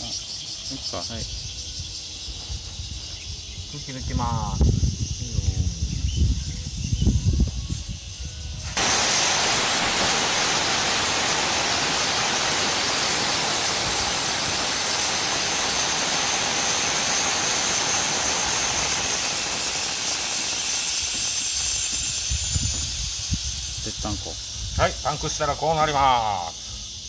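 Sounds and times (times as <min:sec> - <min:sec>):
air hissing out of tyre valve: 0:04.4 - 0:27.0.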